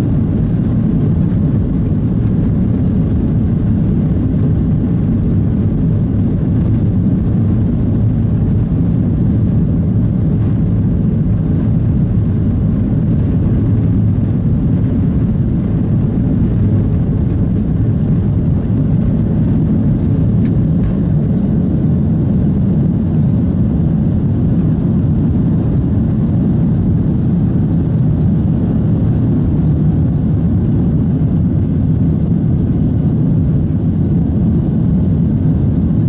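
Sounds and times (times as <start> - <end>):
jet engine rumble in cabin: 0.0 - 36.0.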